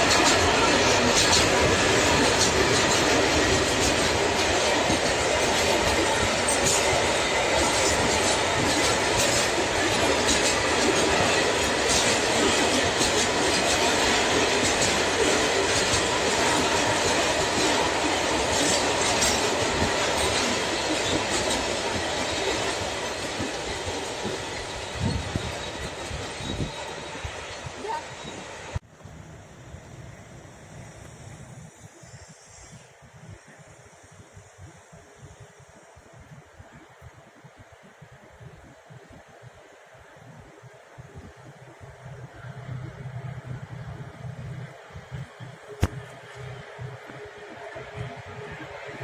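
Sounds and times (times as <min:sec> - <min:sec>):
train wheels on rails: 0:00.0 - 0:49.0.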